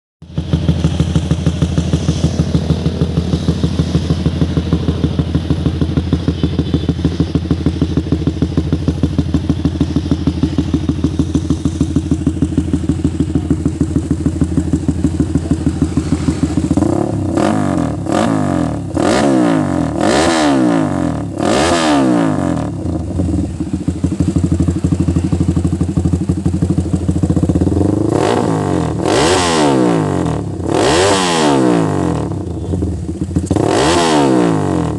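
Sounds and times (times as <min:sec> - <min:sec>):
motorcycle engine idling and revving: 0:00.2 - 0:34.9.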